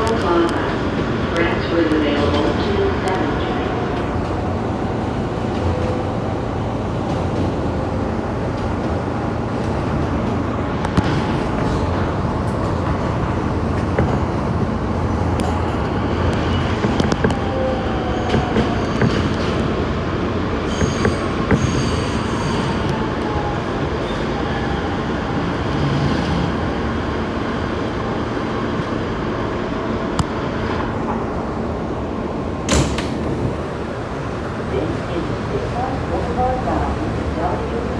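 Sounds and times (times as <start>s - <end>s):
rail clicks: 0.0s - 24.9s, 30.2s - 37.9s
train wheels rumbling on rail: 0.0s - 37.9s.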